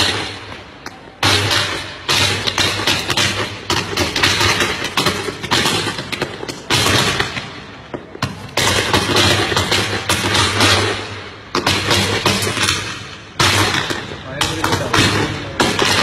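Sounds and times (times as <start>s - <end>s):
firecrackers banging: 0.0s - 16.0s.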